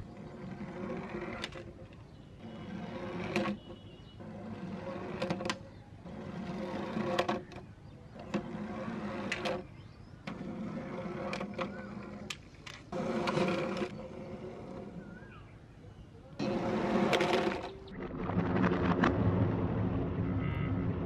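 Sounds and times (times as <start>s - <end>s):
toy trucks whirring on wood: 0.0s - 15.4s, 16.4s - 17.9s.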